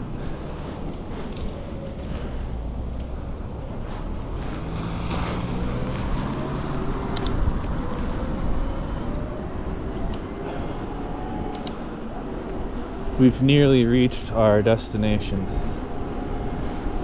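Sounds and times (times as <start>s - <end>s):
road rumble: 0.0s - 17.0s
wind buffeting microphone: 0.0s - 17.0s.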